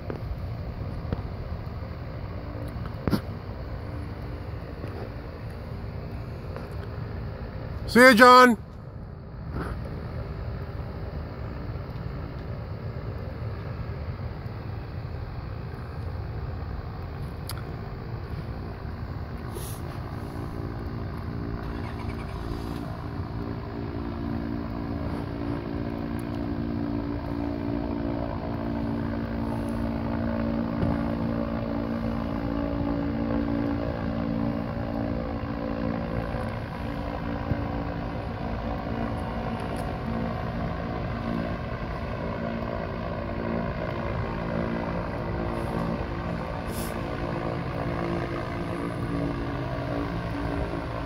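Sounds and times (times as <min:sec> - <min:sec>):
blimp propeller engines droning: 0:00.0 - 0:51.0
steady low rumble: 0:00.0 - 0:51.0.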